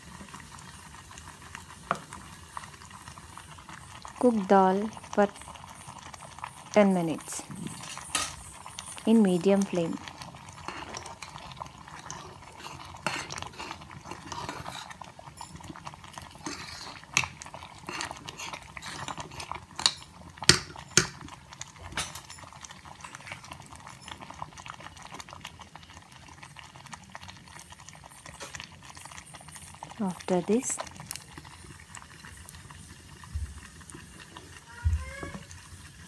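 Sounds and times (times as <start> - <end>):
faint bubbling: 0.0 - 36.0.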